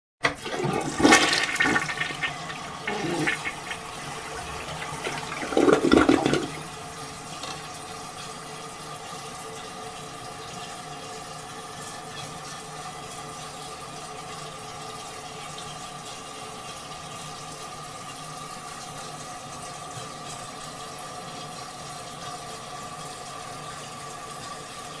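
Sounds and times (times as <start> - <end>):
toilet flushing water rushing: 0.2 - 25.0.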